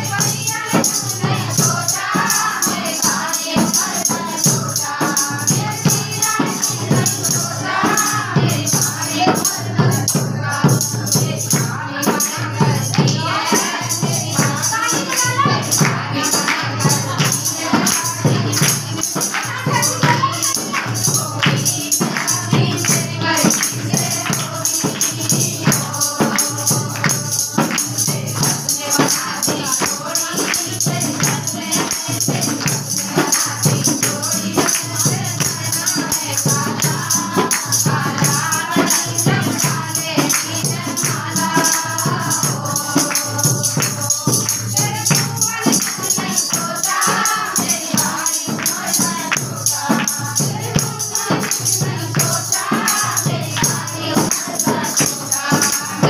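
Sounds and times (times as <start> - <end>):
drum beat: 0.0 - 56.0
jingling percussion: 0.0 - 56.0
women singing folk song: 0.0 - 56.0.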